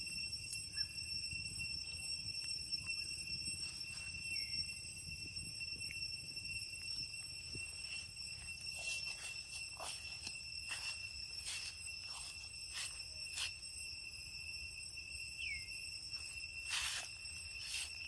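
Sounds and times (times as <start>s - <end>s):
insects droning: 0.0s - 18.0s
sharp insect ticks: 0.0s - 18.0s.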